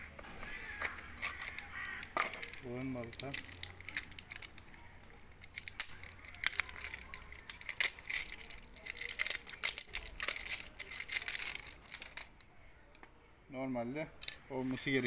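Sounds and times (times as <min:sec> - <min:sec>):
crinkly rustling: 0:00.4 - 0:12.5.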